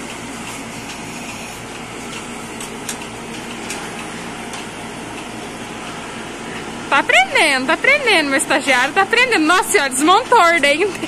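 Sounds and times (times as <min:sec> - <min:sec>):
milking machine humming and hissing: 0:00.0 - 0:11.0.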